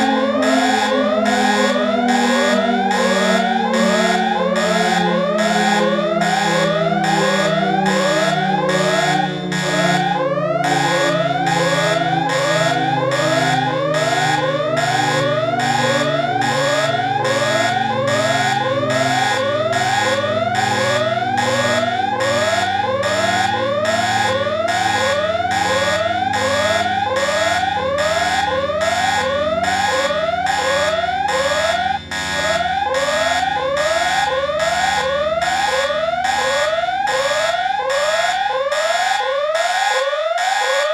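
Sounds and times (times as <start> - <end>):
emergency alert alarm tone: 0.0 - 40.9.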